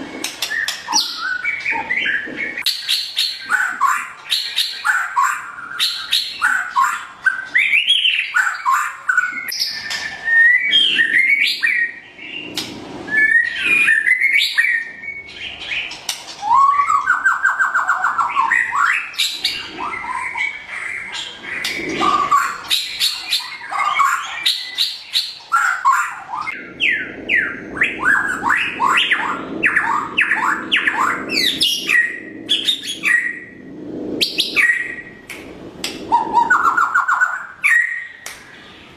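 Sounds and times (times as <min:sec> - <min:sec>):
songbird singing whistled phrases: 0:00.0 - 0:12.5, 0:13.1 - 0:15.8, 0:16.4 - 0:33.5, 0:36.0 - 0:38.7.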